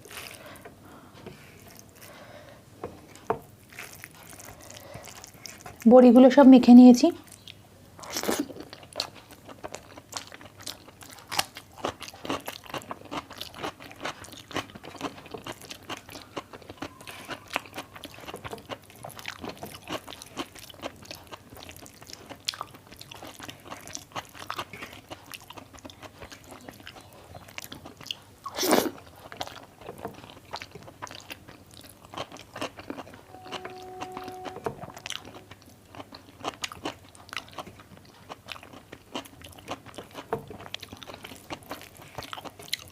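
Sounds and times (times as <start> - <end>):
person chewing and biting: 3.0 - 5.8, 8.2 - 42.9.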